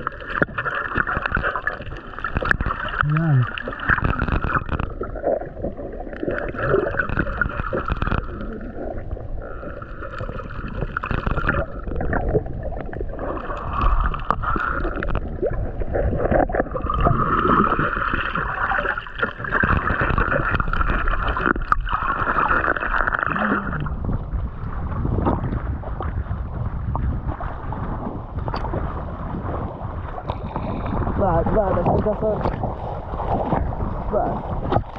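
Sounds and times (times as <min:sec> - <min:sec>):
muffled underwater gurgling: 0:00.0 - 0:34.9.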